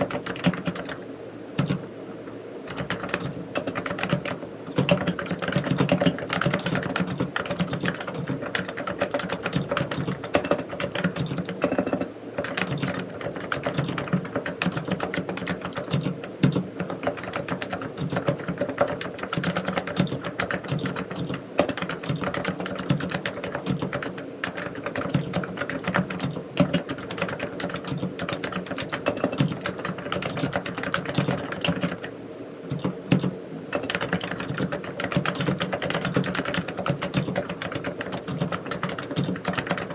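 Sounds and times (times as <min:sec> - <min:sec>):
soft keyboard typing: 0:00.0 - 0:01.0, 0:01.6 - 0:39.9.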